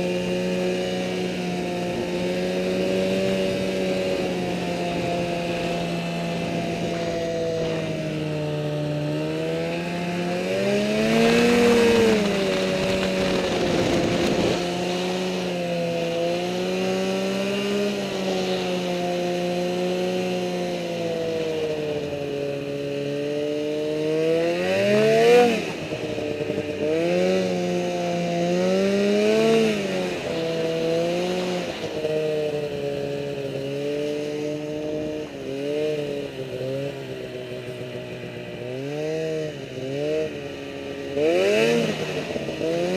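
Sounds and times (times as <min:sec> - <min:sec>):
snowmobile engine revving: 0:00.0 - 0:42.9.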